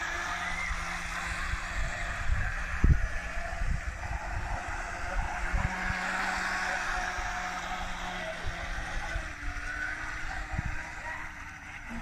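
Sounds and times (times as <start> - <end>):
model boat waterjet humming: 0.0 - 12.0
wind buffeting microphone: 0.0 - 12.0.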